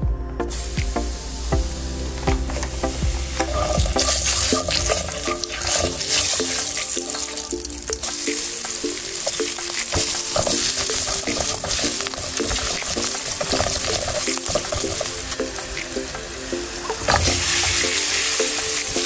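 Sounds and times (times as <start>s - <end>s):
sauce and onions sizzling: 0.5s - 19.0s.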